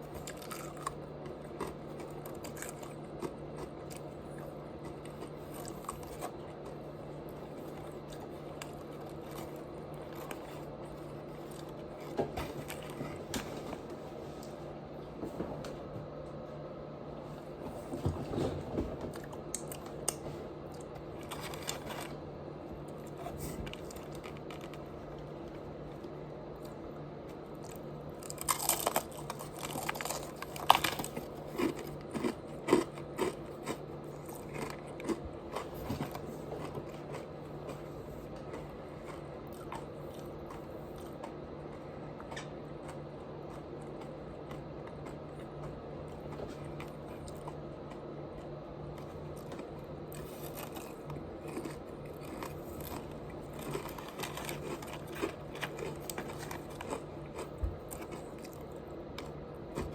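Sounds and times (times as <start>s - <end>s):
crunchy bites and chewing: 0.0s - 13.2s, 19.1s - 59.9s
steady low hum: 0.0s - 59.9s.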